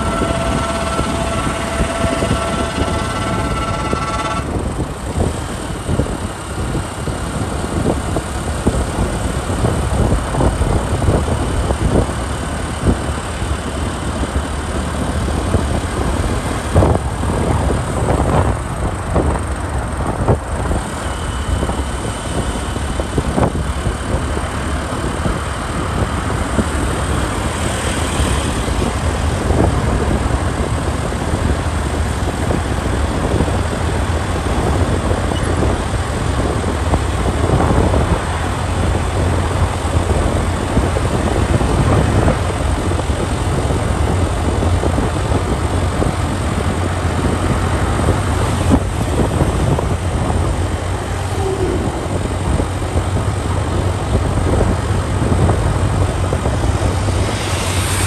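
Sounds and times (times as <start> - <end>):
motorcycle engine: 0.0 - 58.0
road noise: 0.0 - 58.0
wind rumble on microphone: 0.0 - 58.0.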